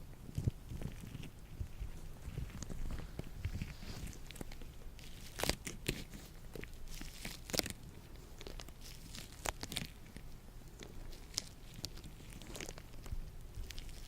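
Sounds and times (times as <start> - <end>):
latex gloves crinkling and snapping: 0.2 - 14.0.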